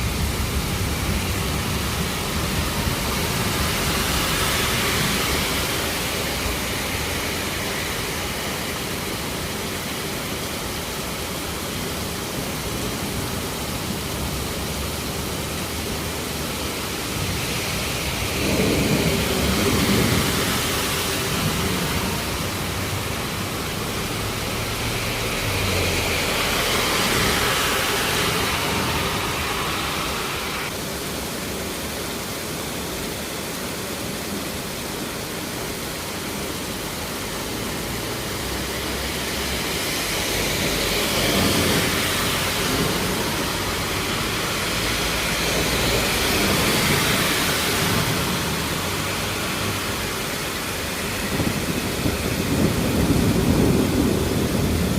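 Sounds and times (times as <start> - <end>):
torrential rain: 0.0 - 54.9.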